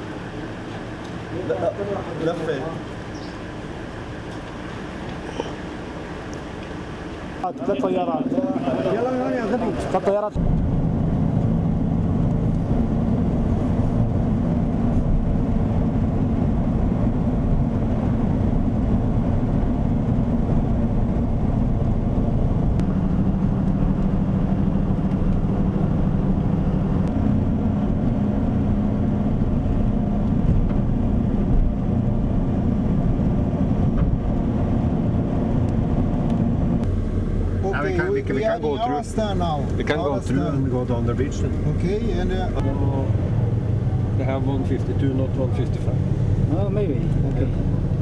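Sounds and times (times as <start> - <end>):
road noise: 0.0 - 48.0
vehicle engine driving: 0.0 - 48.0.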